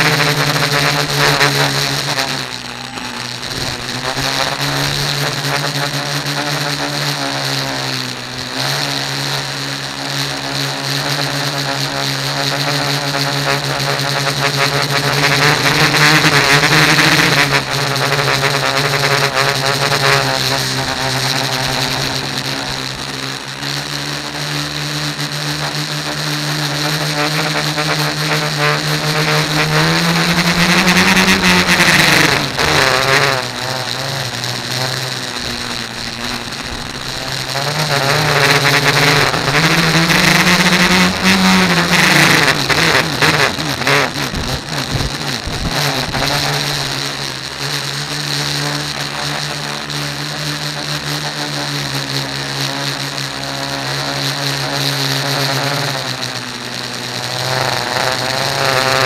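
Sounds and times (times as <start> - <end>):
drone motors and propellers whirring: 0.0 - 59.0.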